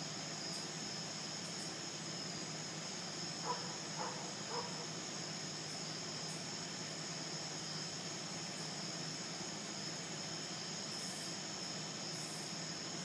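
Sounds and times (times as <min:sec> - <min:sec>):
night insects chorus: 0:00.0 - 0:13.0.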